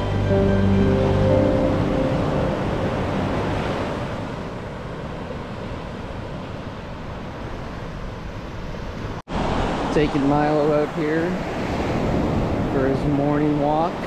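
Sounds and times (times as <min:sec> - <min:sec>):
ocean surf washing onto beach: 0:00.0 - 0:14.0.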